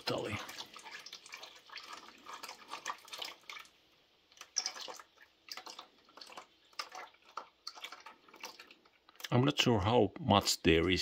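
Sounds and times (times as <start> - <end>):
oil dripping into a bucket: 0.0 - 9.5.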